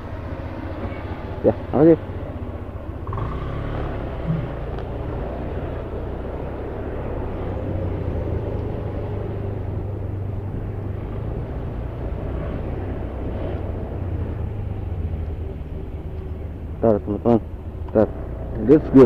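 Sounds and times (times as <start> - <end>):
vehicle engines idling: 0.0 - 19.0.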